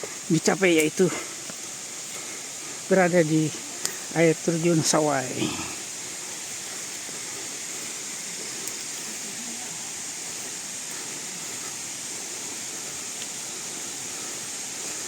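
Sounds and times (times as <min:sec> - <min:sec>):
waterfall: 0:00.0 - 0:15.0.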